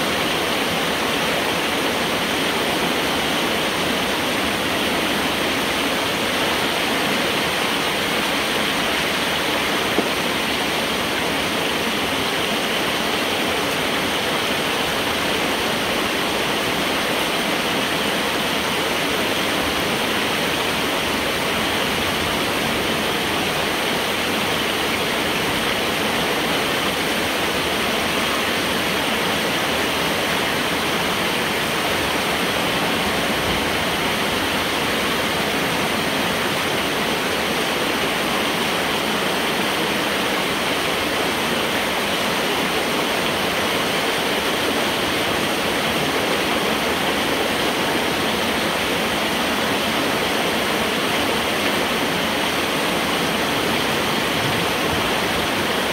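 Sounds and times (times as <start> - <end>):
water rushing and splashing: 0.0 - 55.9.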